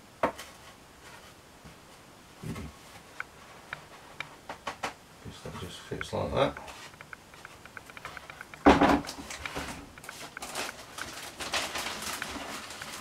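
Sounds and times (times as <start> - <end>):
plastic wrapping rustling: 2.4 - 13.0.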